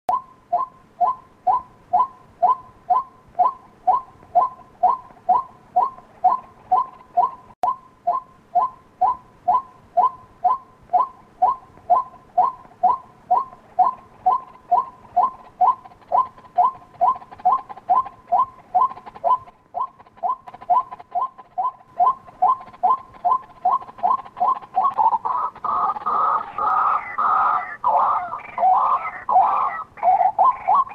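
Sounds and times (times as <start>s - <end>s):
waterhen calling: 0.1s - 30.9s.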